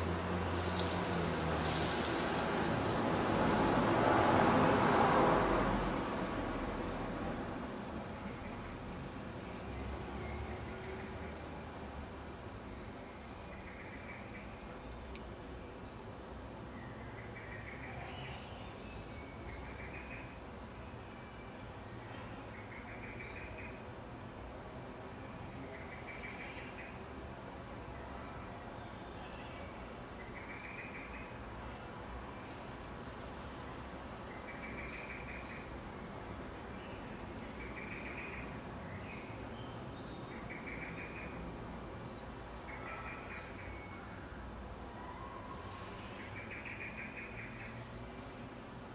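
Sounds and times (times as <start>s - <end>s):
outdoor background noise: 0.0s - 48.9s.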